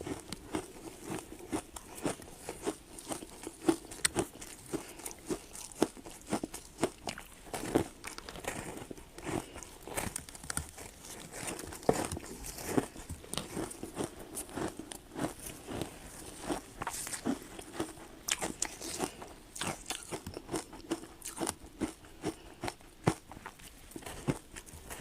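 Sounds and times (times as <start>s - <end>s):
ice crunching being chewed: 0.0s - 25.0s.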